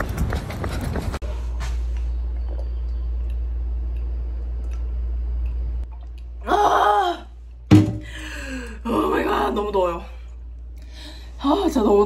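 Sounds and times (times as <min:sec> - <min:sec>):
steady low hum: 0:01.2 - 0:06.5, 0:07.2 - 0:12.0.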